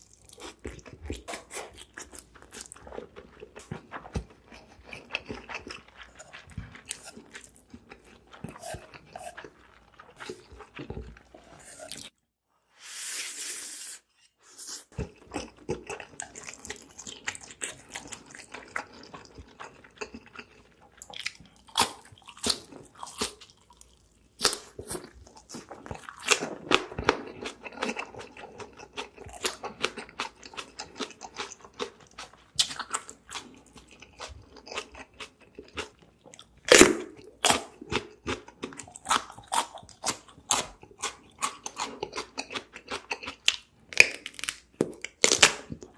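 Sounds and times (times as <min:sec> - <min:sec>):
chewing and crunching bites: 0:00.0 - 0:12.1, 0:15.0 - 0:45.9.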